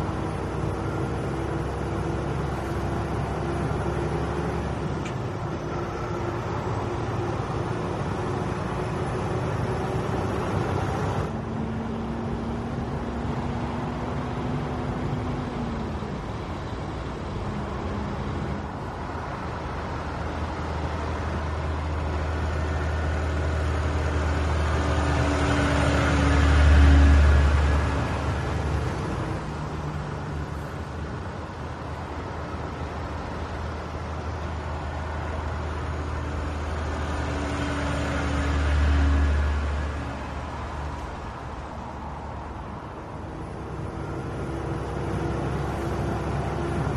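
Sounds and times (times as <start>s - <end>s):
truck diesel engine: 0.0s - 46.9s
tyre and road noise: 0.0s - 46.9s.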